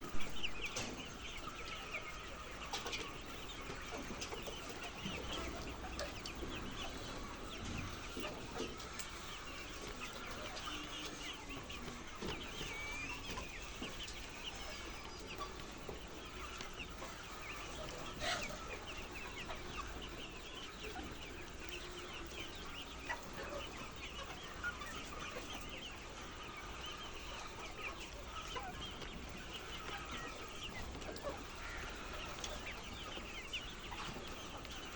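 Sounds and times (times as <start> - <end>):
hens clucking: 0.0 - 34.9.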